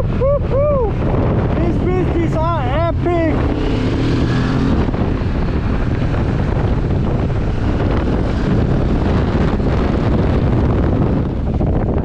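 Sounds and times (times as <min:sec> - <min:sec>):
wind noise on microphone: 0:00.0 - 0:12.0
motorcycle engine running: 0:00.9 - 0:12.0.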